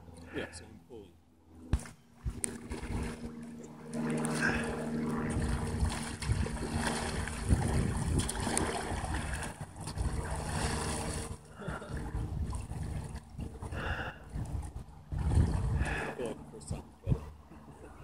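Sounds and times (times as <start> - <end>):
water splashing around kayak: 1.8 - 16.4.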